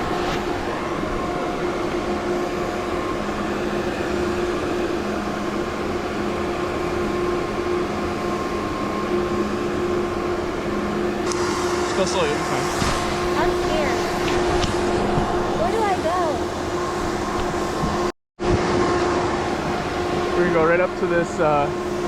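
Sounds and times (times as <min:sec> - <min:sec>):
mechanical drone with hum tones: 0:00.0 - 0:22.0.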